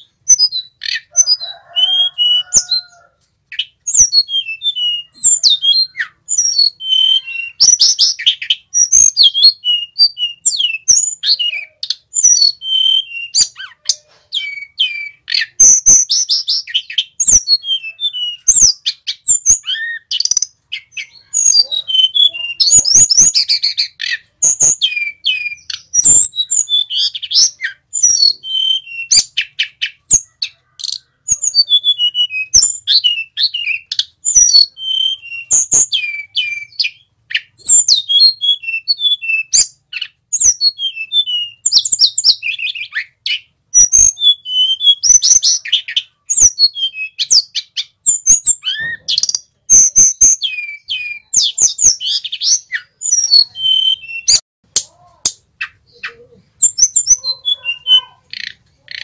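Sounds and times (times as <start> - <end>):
bird singing whistled phrases: 0.0 - 54.4, 55.6 - 59.0.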